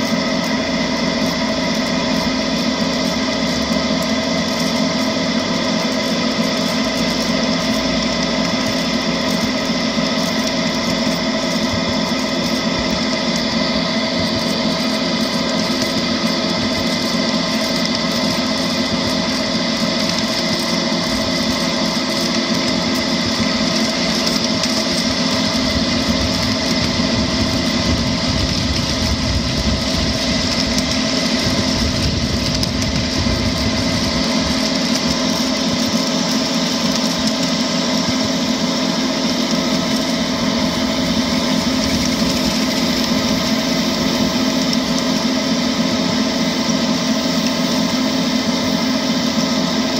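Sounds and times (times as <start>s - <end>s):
miniature diesel locomotive engine drone: 0.0s - 49.9s.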